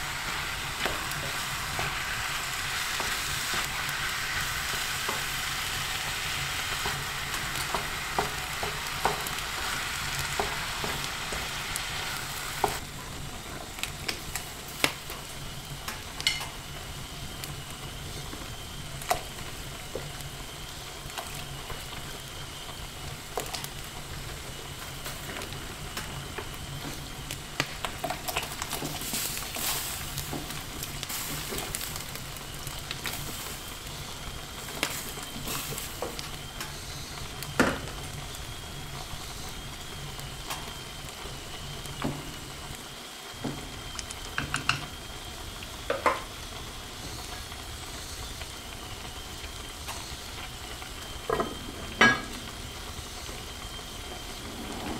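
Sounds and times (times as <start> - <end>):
food sizzling in a frying pan: 0.0 - 54.9.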